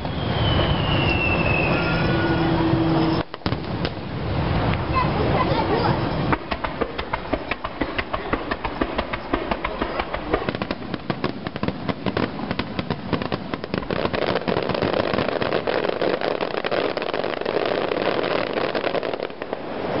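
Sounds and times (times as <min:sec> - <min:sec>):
fireworks crackling: 0:00.0 - 0:20.0
fireworks popping: 0:00.0 - 0:20.0.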